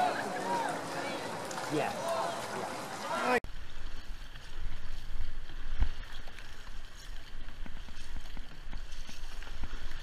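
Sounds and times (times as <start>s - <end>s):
paddles splashing through water: 0.0s - 10.0s.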